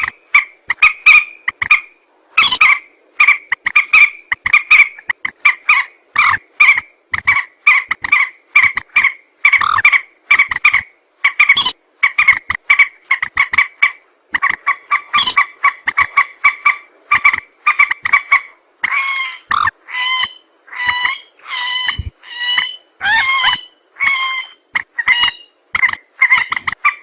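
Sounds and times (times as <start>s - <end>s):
recorded rail bird calls: 0.0s - 27.0s.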